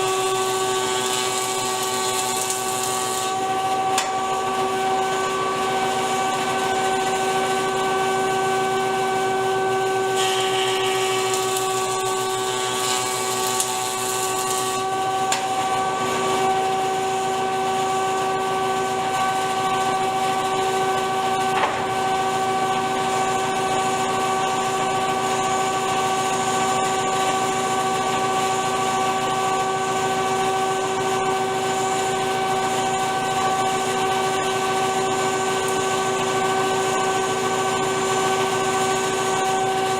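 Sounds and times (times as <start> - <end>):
woodworking machine humming: 0.0 - 39.9.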